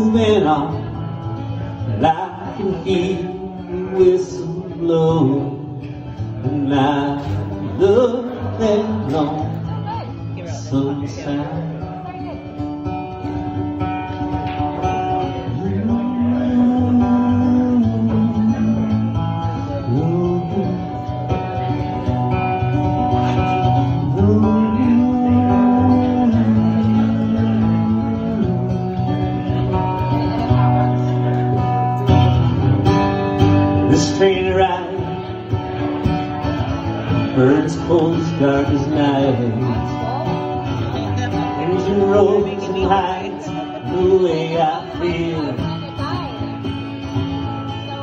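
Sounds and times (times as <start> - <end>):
man singing: 0.0 - 12.2, 14.9 - 32.2, 33.0 - 48.0
acoustic guitar strumming: 0.0 - 48.0.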